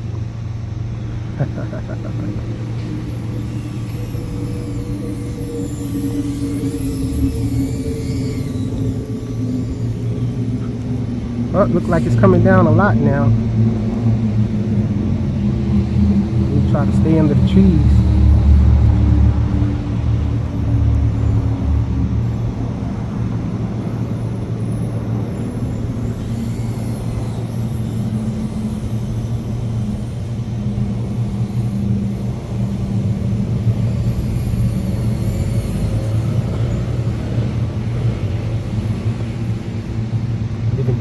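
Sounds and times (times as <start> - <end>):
quadcopter motors whining: 0.1 - 41.0.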